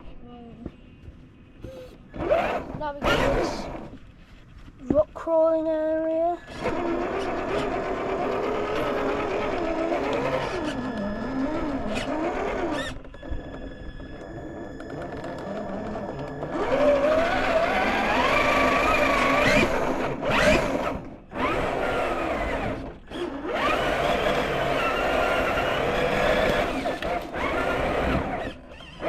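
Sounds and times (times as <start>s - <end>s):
toy car electric motor whining: 1.6s - 4.0s, 6.3s - 29.0s.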